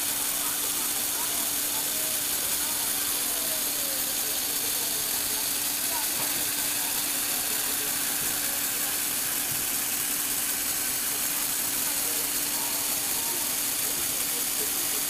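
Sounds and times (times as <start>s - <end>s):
small electric motor humming: 0.0s - 15.0s.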